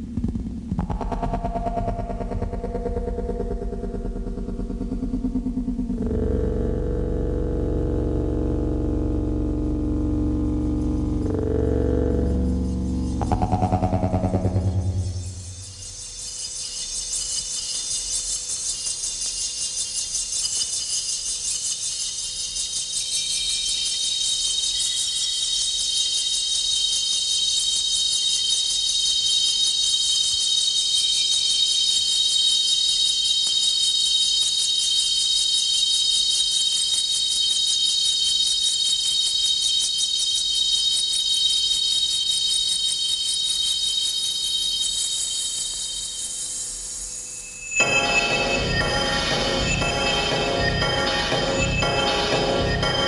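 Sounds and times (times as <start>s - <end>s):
high-pitched chirring drone: 0.8s - 53.0s.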